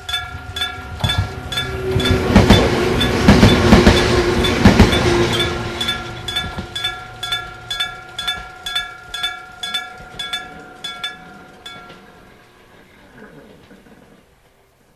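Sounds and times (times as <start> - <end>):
electric gong crossing bell striking: 0.0 - 12.7
train rumble: 0.0 - 14.4.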